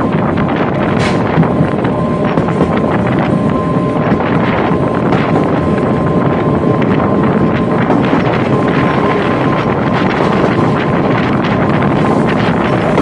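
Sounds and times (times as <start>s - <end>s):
thin steady whine: 0.0s - 13.0s
train running noise: 0.0s - 13.0s
wind buffeting microphone: 0.0s - 13.0s.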